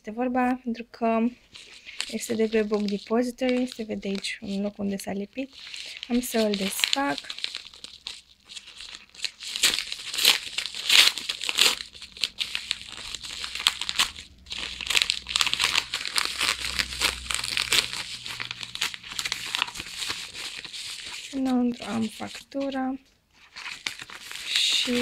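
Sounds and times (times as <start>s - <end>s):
padded envelope tearing and crinkling: 1.4s - 22.8s, 23.4s - 25.0s.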